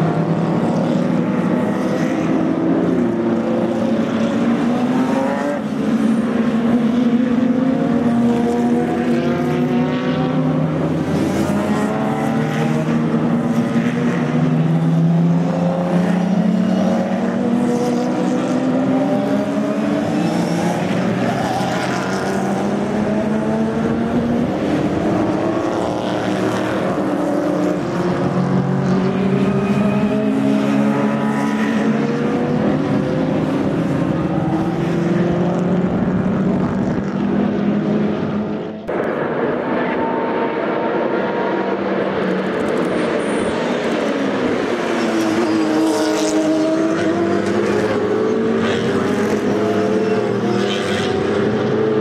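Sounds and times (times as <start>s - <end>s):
race car engine: 0.0s - 52.0s
race cars passing at speed: 0.0s - 52.0s.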